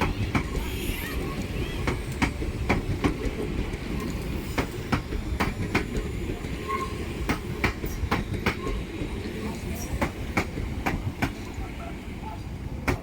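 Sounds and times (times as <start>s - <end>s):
train wheels clicking over joint: 0.0s - 11.6s
train rumbling past: 0.0s - 13.0s.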